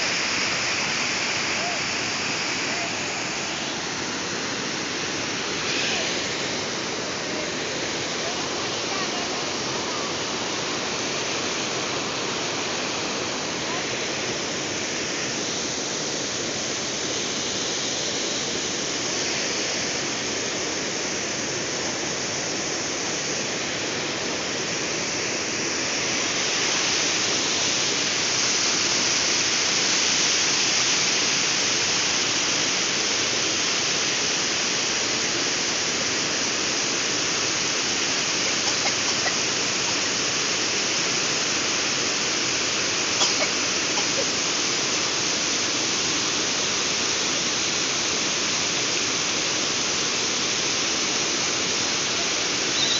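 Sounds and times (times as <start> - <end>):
water rushing over weir: 0.0 - 52.9.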